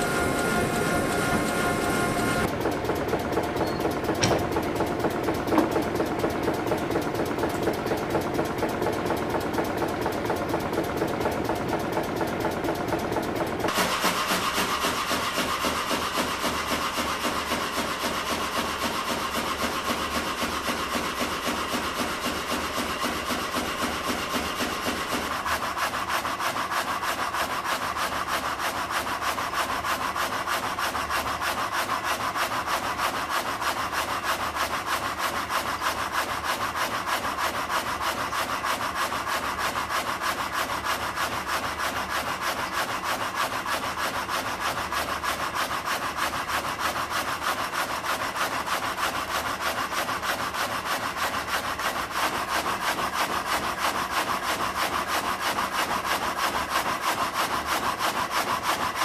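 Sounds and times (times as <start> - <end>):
saw rasping through timber: 0.0 - 2.5, 13.1 - 59.0.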